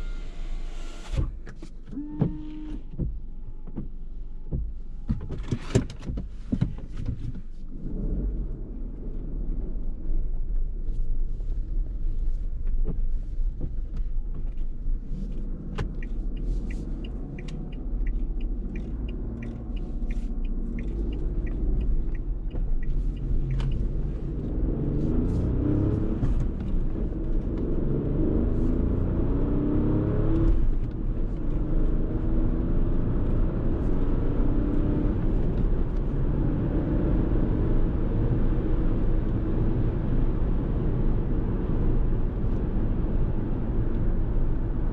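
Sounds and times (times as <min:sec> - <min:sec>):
car engine accelerating: 0:00.0 - 0:04.6, 0:07.7 - 0:44.9
road rumble: 0:00.0 - 0:44.9.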